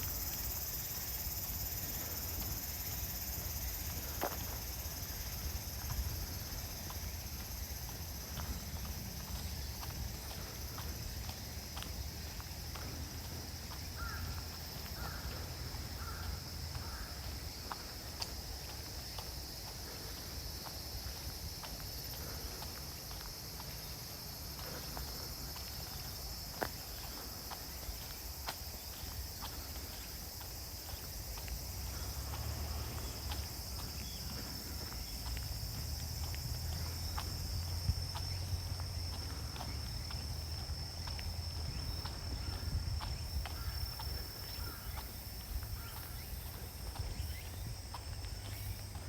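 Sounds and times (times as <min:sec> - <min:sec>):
footsteps crunching on forest path: 0:00.0 - 0:49.0
insects trilling: 0:00.0 - 0:49.0.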